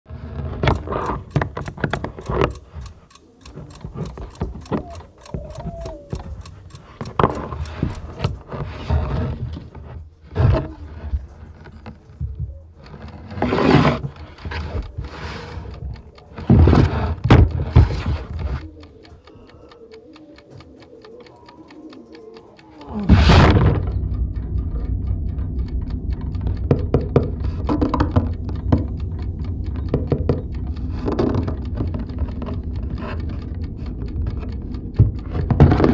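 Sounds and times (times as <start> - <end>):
fast clicks: 0.6 - 35.9.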